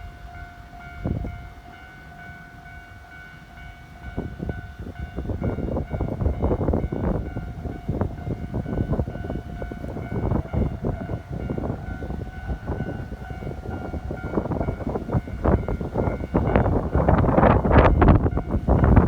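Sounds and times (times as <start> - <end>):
crossing warning alarm: 0.0 - 19.0
train rumble: 0.0 - 19.0.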